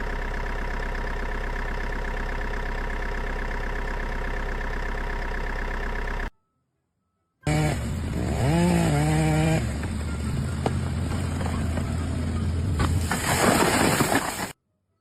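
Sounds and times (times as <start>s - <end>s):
engine running: 0.0s - 6.3s, 7.4s - 14.5s.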